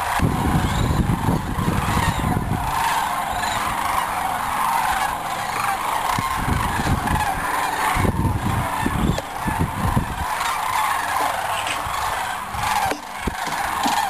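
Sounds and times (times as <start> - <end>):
wind rumbling on microphone: 0.0 - 4.0, 5.8 - 14.0
cranes calling in chorus: 0.0 - 14.0.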